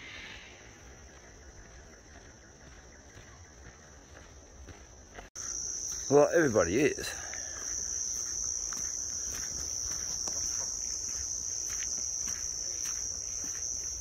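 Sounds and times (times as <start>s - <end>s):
high-pitched insect chorus: 0.0s - 14.0s
footsteps on dirt track: 0.7s - 14.0s.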